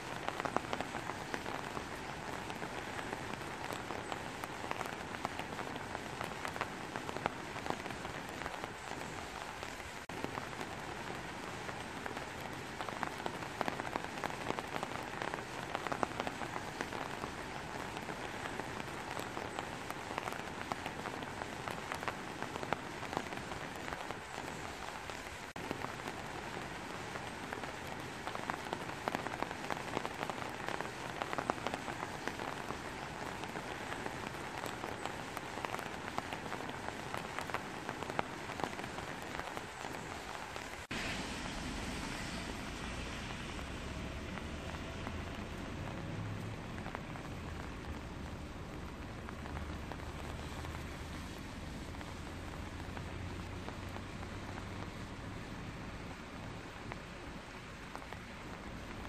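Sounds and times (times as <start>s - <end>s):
close raindrop hits: 0.0s - 59.0s
steady rain falling: 0.0s - 59.0s.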